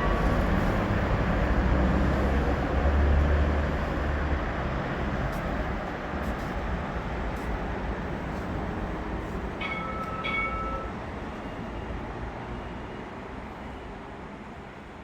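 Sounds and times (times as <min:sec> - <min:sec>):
tram running along track: 0:00.0 - 0:15.0.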